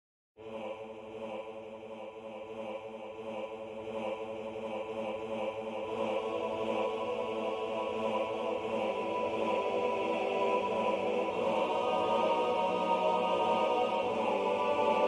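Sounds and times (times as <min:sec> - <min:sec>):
synthesized bass voices chanting: 0:00.4 - 0:15.0
synthesized choir humming: 0:00.4 - 0:15.0.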